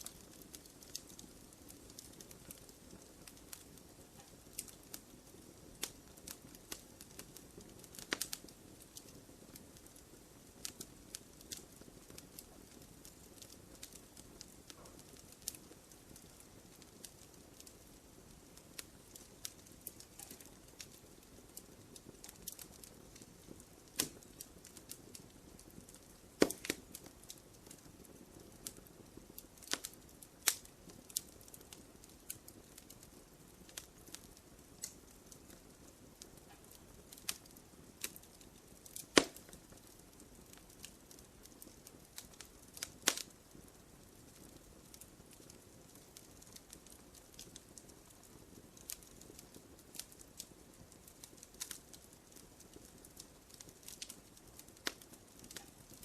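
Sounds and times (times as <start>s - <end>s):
fire crackling and popping: 0.0s - 56.0s
soft low hiss: 0.0s - 56.0s.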